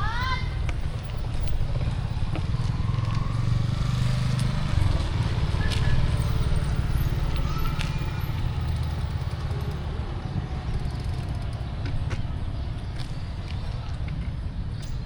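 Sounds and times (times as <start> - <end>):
motorbike and car engines passing: 0.0 - 15.0.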